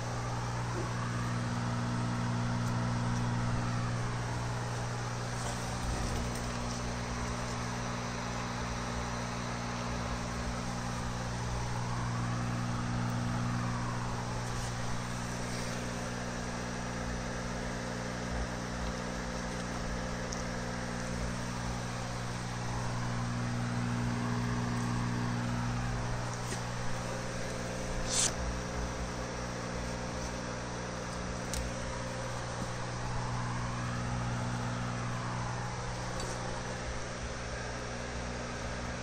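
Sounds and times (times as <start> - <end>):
machine humming: 0.0 - 39.0.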